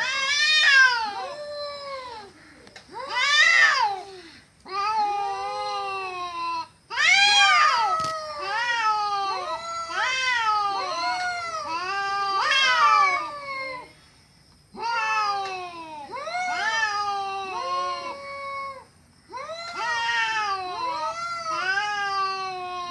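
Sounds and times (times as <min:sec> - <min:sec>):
cats yowling in a fight: 0:00.0 - 0:14.0, 0:14.7 - 0:22.9.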